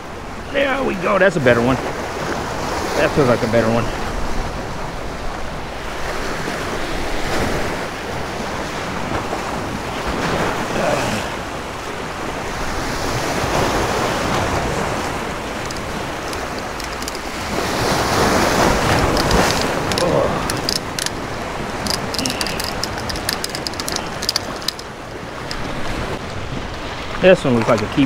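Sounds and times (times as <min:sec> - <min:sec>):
surf washing over rocks: 0:00.0 - 0:28.0.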